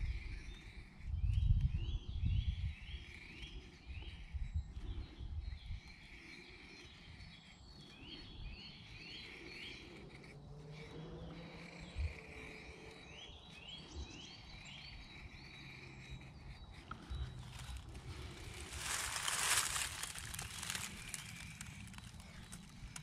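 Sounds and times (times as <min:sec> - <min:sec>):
songbird chirping: 0:00.0 - 0:23.0
knife shaving wooden stick: 0:02.6 - 0:23.0.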